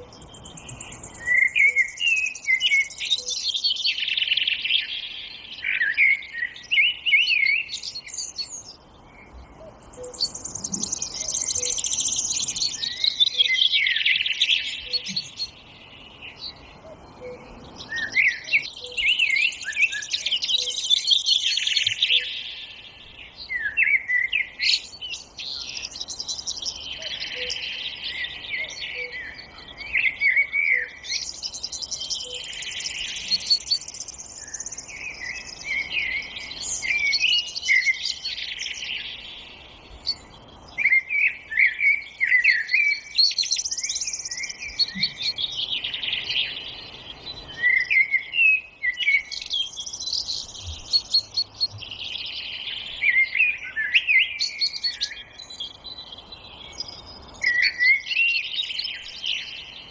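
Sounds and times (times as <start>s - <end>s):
songbirds warbling: 0.0s - 59.9s.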